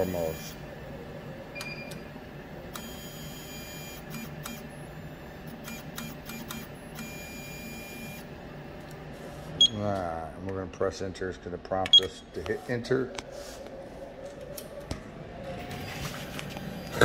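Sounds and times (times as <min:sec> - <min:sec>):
printer mechanical hum: 0:00.0 - 0:17.0.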